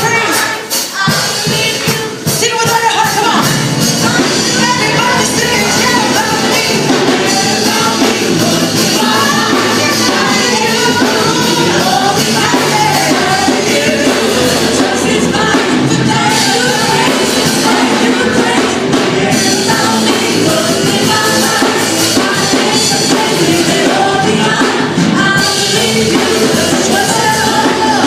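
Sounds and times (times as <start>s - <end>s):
congregation singing: 0.0s - 28.0s
keyboard-led worship band: 0.0s - 28.0s.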